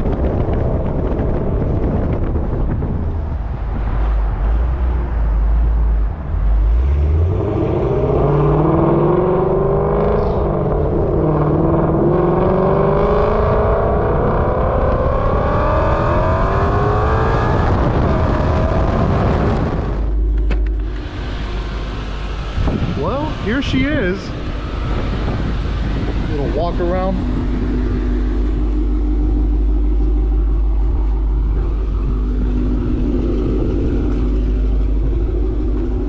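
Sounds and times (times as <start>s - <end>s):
car engine rumbling and accelerating: 0.0s - 36.0s.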